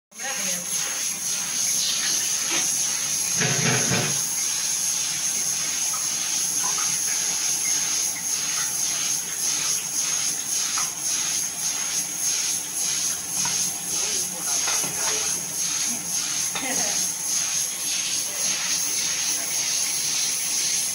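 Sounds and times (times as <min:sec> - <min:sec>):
steam hissing from pressure cooker: 0:00.2 - 0:20.9.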